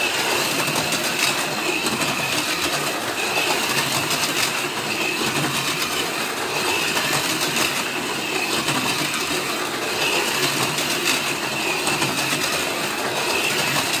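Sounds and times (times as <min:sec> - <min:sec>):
cars rattling on plastic track: 0:00.0 - 0:14.0
slot car motors whirring: 0:00.0 - 0:14.0.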